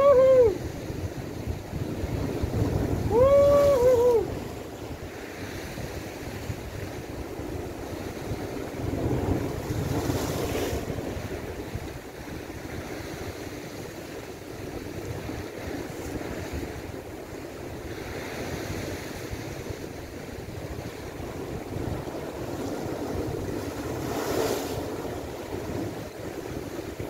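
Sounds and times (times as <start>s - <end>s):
surf washing against rocks: 0.0s - 27.0s
wind buffeting microphone: 0.0s - 27.0s.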